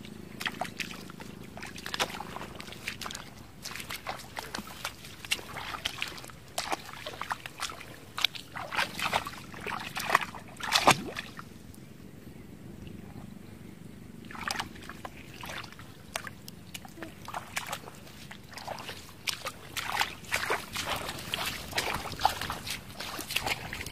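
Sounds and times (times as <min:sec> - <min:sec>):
splashing in shallow muddy water: 0:00.0 - 0:11.7, 0:14.1 - 0:23.9.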